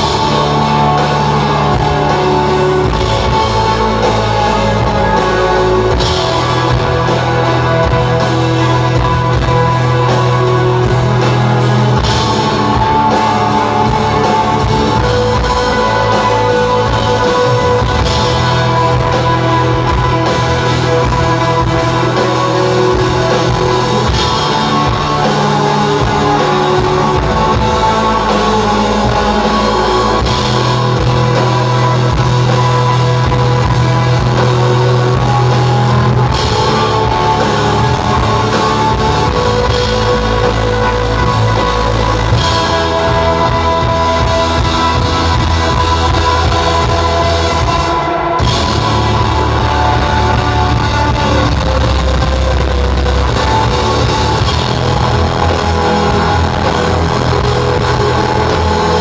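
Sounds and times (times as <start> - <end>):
loud live shoegaze band: 0.0 - 59.0.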